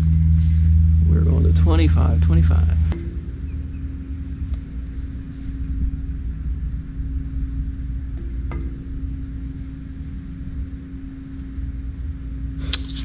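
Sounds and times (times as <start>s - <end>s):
constant hum: 0.0s - 13.0s
low rumble: 0.0s - 13.0s.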